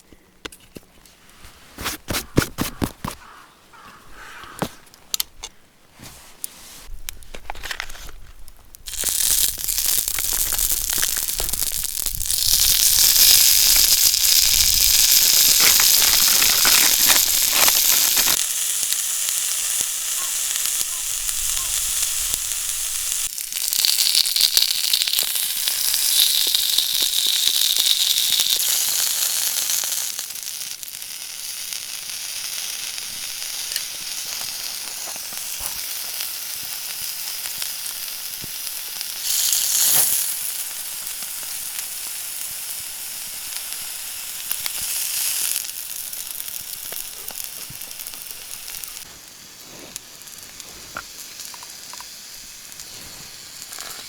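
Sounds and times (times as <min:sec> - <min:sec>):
food sizzling in a pan: 0:08.9 - 0:54.0.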